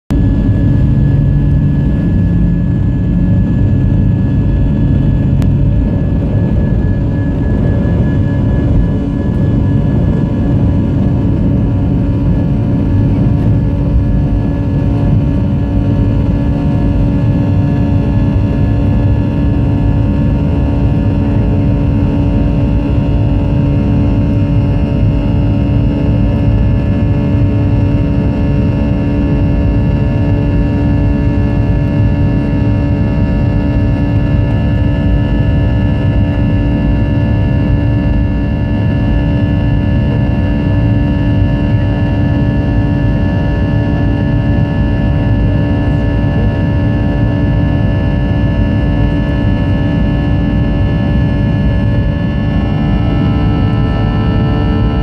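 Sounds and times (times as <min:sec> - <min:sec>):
jet engines at takeoff: 0:00.1 - 0:55.0.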